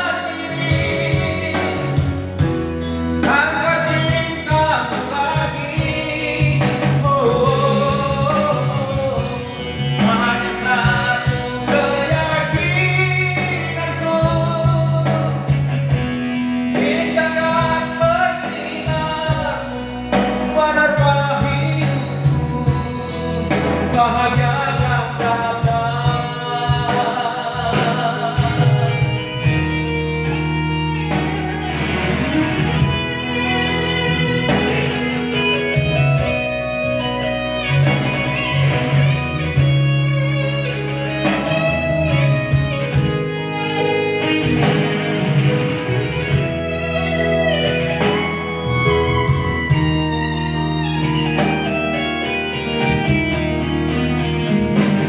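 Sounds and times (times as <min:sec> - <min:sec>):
guitar with bent notes: 0:00.0 - 0:55.0
steady bass: 0:00.0 - 0:55.0.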